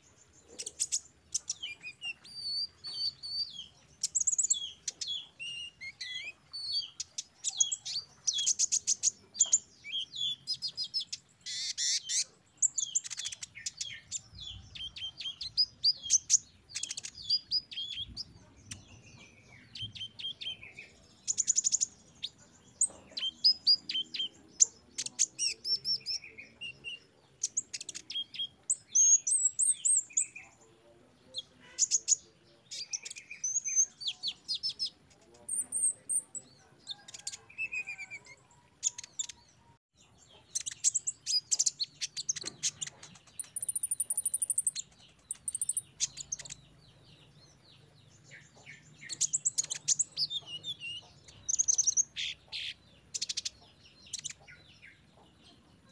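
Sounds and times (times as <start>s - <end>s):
bird singing chirps and trills: 0.0s - 55.9s.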